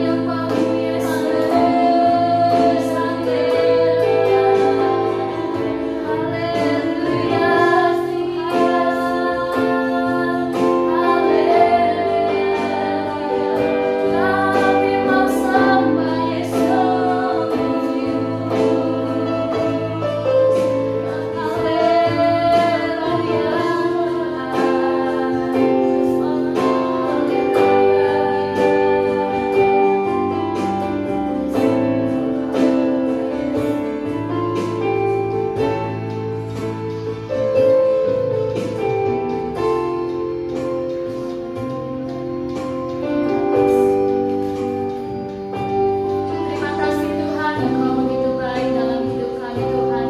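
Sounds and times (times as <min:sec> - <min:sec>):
electronic keyboard accompaniment: 0:00.0 - 0:50.0
women singing worship song: 0:00.0 - 0:50.0.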